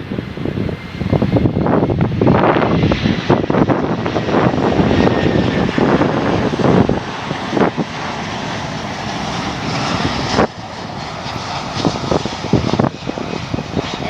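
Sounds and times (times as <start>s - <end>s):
airliner engines rushing: 0.0s - 14.0s.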